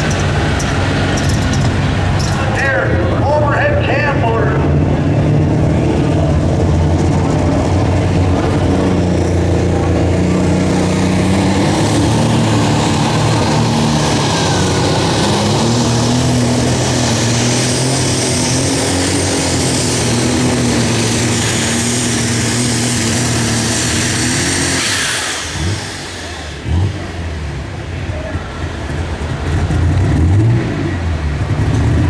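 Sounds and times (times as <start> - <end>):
diesel engine running at full power: 0.0 - 32.0.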